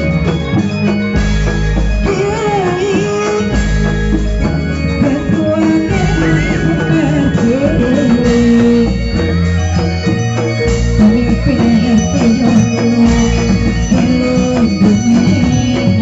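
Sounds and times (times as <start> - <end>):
hand drums: 0.0 - 16.0
steady bass: 0.0 - 16.0
wavering melody line: 0.0 - 16.0.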